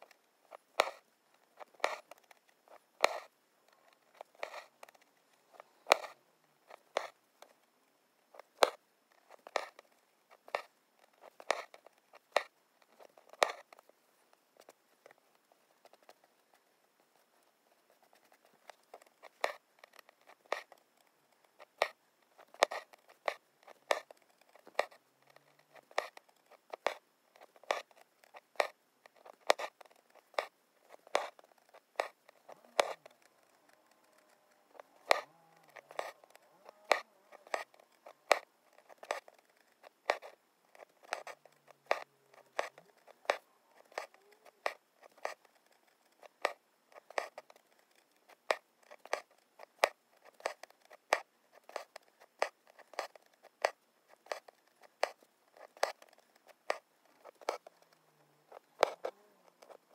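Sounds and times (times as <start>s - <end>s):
needle tapping through taut fabric: 8.4s - 59.9s.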